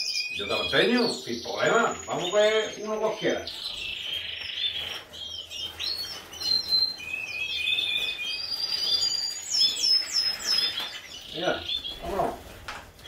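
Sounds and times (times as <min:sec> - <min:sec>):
canaries chirping and singing: 0:00.0 - 0:13.0
downward-sweeping bird calls: 0:00.0 - 0:13.0.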